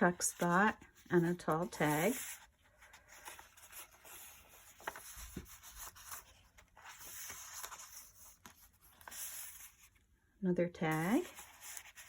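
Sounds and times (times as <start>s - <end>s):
paper pages rustling: 0.0s - 10.0s, 11.0s - 12.0s.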